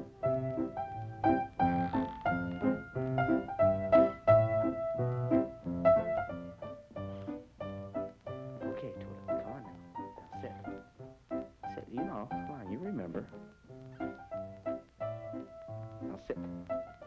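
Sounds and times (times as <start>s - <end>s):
piano playing a tune: 0.0s - 17.0s.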